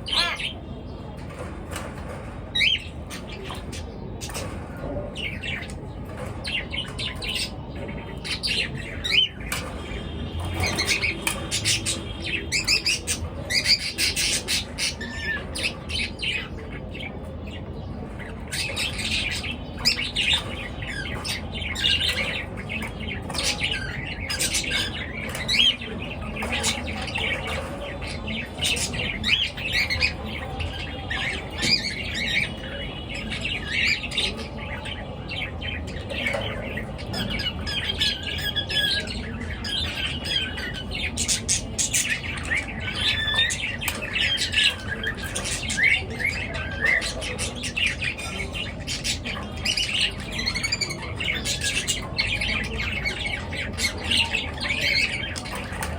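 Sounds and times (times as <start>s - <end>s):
pet birds chirping and calling: 0.0s - 55.9s.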